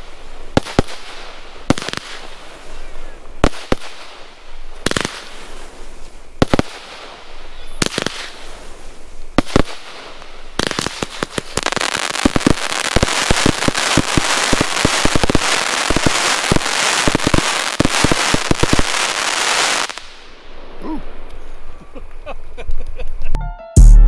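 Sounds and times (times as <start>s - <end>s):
rapid volley of fireworks reports: 0.0s - 20.1s
fireworks shots: 0.0s - 21.3s.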